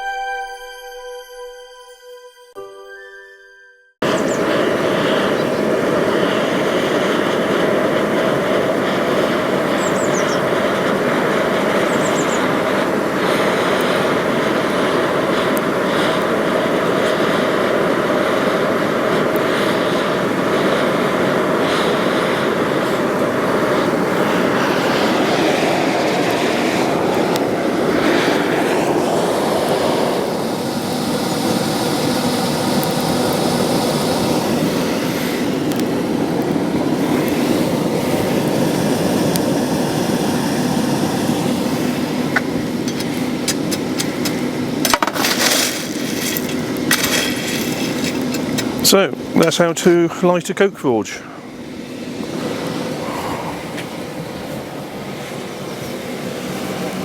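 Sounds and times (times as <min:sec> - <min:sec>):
blower fan rushing air: 0:04.0 - 0:57.0
constant hum: 0:04.0 - 0:57.0.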